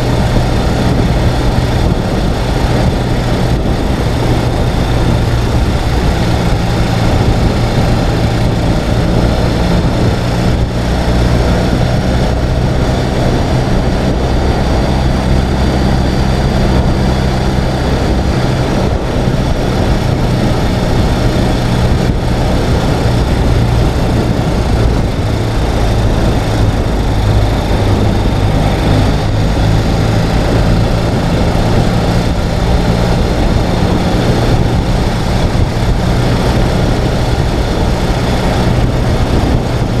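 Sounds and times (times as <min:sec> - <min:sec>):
motorcycle engine running: 0:00.0 - 0:40.0
road and air noise: 0:00.0 - 0:40.0.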